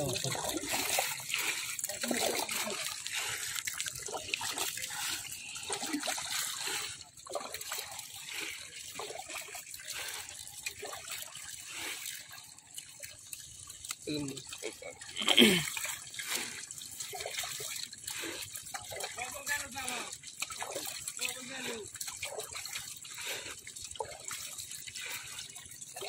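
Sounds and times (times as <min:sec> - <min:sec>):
shallow water trickling: 0:00.0 - 0:26.0.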